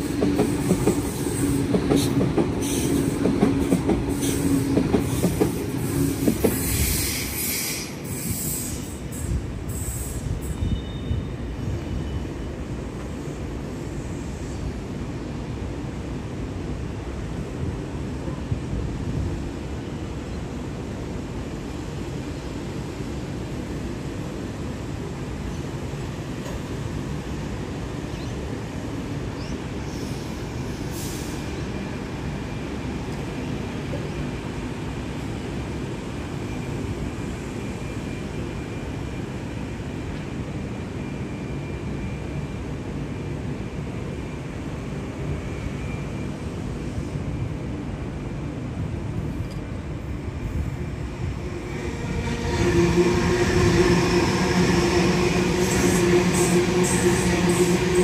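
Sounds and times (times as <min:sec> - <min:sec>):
train rumbling on tracks: 0:00.0 - 0:58.0.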